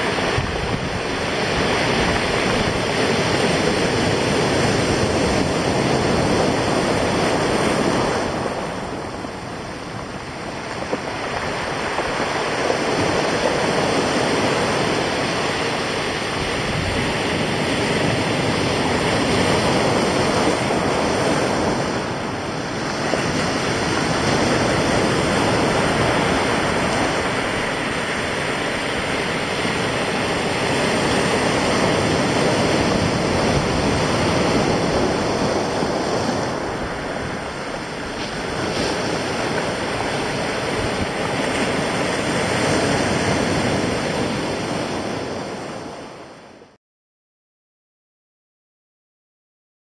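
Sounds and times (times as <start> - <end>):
surf breaking on rocks: 0.0 - 46.4
wind: 0.0 - 46.8.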